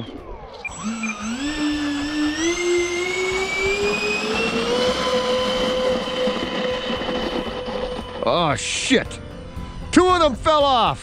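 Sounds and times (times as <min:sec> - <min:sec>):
electric ducted fans whining: 0:00.0 - 0:09.6.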